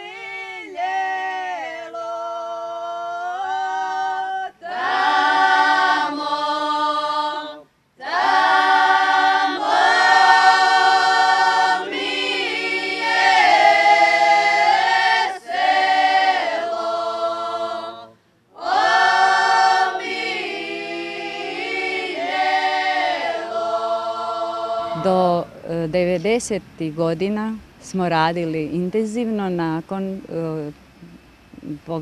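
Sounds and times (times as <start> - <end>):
group singing a cappella: 0.0 - 25.8.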